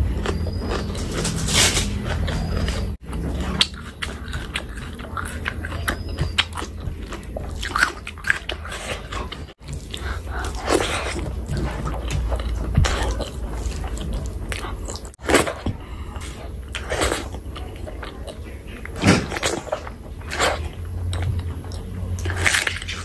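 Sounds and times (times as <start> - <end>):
wet chewing and lip-smacking: 0.0 - 23.0.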